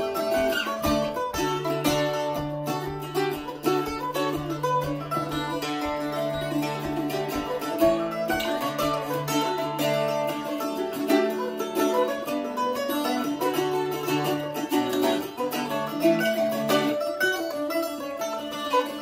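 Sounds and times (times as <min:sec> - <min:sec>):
bouzouki strummed strings: 0:00.0 - 0:19.0
mandolin picked notes: 0:00.0 - 0:19.0.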